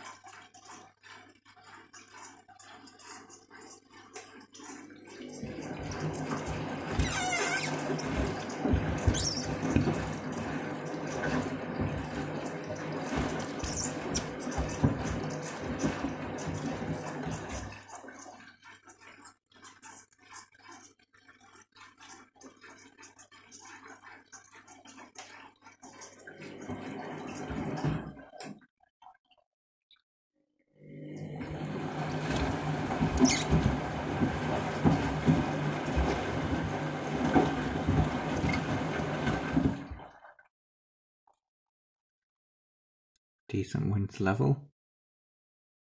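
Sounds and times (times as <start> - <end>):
washing machine motor hum: 0.0 - 28.6, 30.8 - 40.3
water sloshing in washing machine: 0.0 - 29.5, 30.7 - 40.5.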